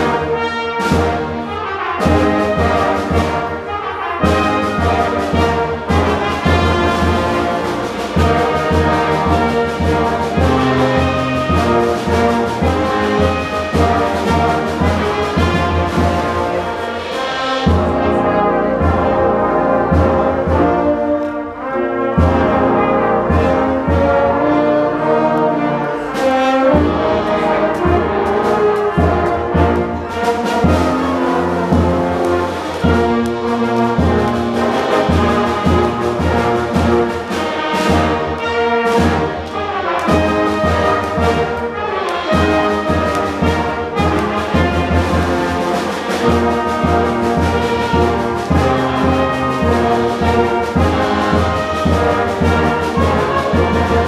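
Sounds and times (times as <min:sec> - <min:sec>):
percussion beat: 0:00.0 - 0:20.9, 0:26.0 - 0:54.0
brass marching band playing: 0:00.0 - 0:54.0.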